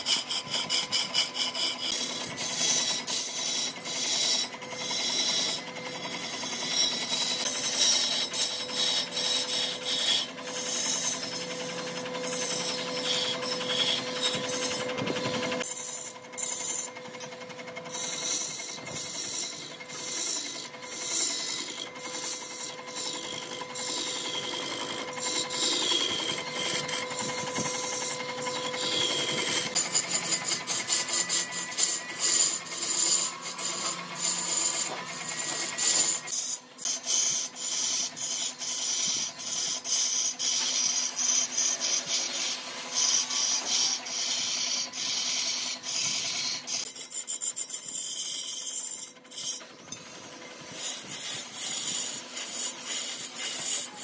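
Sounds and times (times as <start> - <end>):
hand tool scraping wood: 0.0 - 54.0.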